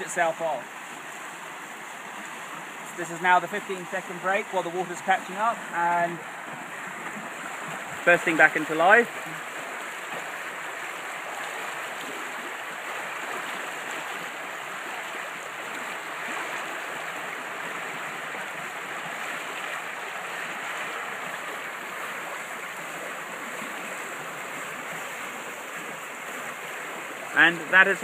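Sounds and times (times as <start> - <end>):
water rushing through a gate: 0.0 - 28.0.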